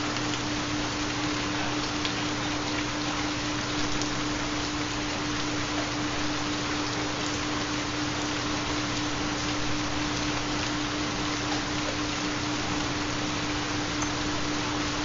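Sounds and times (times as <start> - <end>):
rainfall: 0.0 - 15.0.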